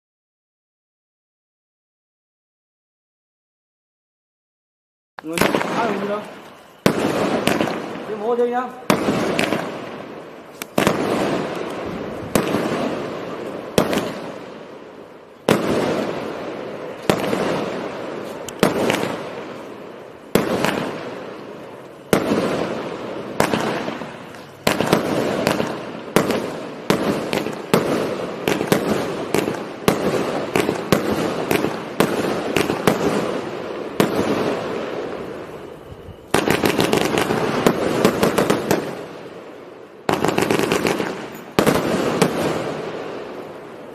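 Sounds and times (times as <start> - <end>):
firework bursts: 5.2 - 43.9.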